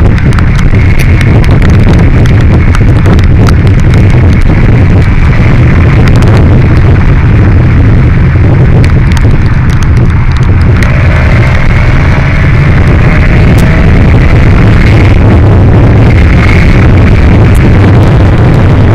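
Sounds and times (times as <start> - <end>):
motorcycle engine: 0.0 - 18.9
road noise: 0.0 - 18.9
wind buffeting microphone: 0.0 - 18.9.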